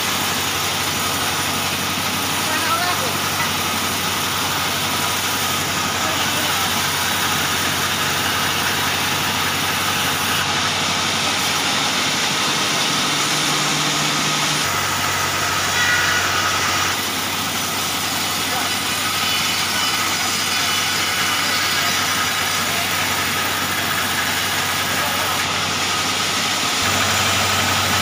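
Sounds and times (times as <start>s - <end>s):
saw bench cutting timber: 0.0s - 28.0s.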